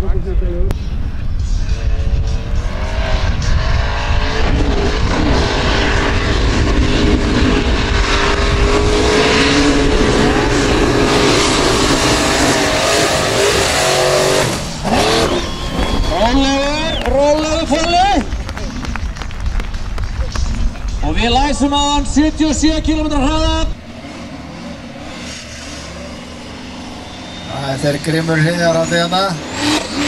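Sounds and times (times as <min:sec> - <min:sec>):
engine at high revs: 0:01.7 - 0:20.7, 0:21.6 - 0:30.0.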